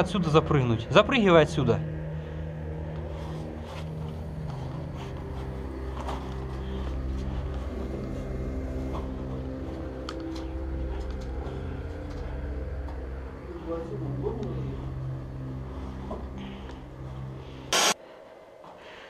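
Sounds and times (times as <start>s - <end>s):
low drone: 0.0s - 18.6s.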